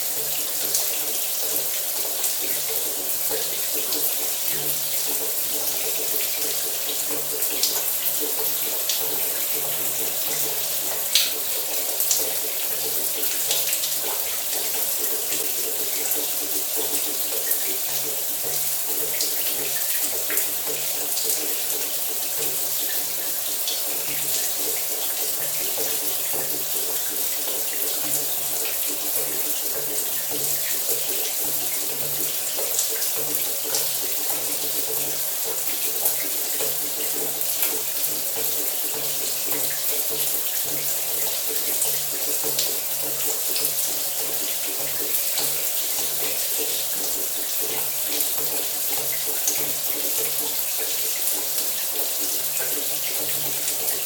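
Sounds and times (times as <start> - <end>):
water drips: 0.0 - 54.0.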